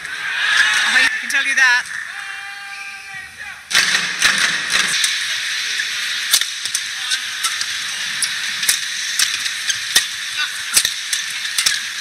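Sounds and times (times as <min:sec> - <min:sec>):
steady background hiss: 0:01.9 - 0:12.0.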